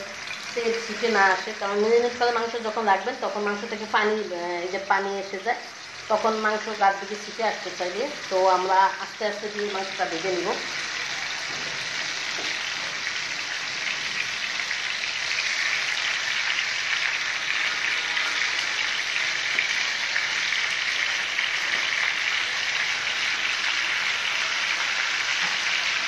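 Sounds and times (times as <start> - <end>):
chicken sizzling in frying pan: 0.0 - 26.0.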